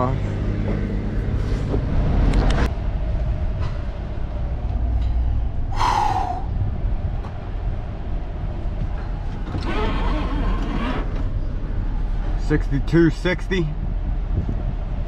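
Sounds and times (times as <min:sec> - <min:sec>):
vehicle engine low rumble: 0:00.0 - 0:15.0.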